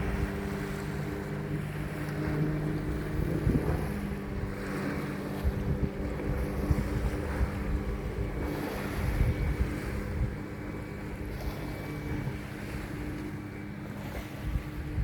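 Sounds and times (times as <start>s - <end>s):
hull moving through water: 0.0s - 15.0s
motorboat engine humming: 0.0s - 15.0s
wind buffeting microphone: 0.0s - 15.0s.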